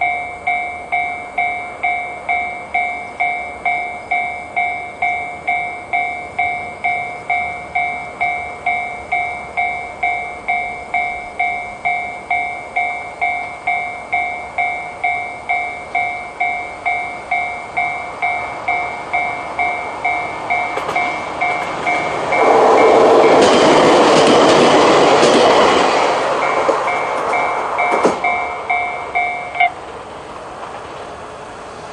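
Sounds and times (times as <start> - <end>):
level crossing bell dinging: 0.0 - 23.0, 26.4 - 29.8
train passing: 0.0 - 31.9.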